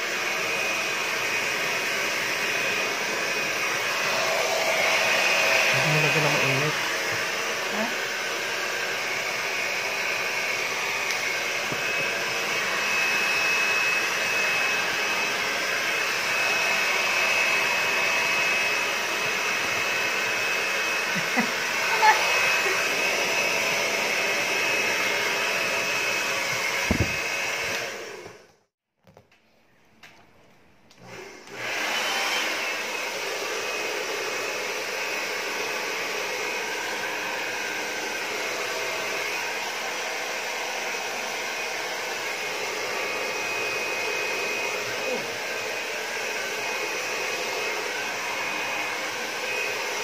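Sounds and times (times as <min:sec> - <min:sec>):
hair dryer running: 0:00.0 - 0:28.6, 0:30.9 - 0:50.0.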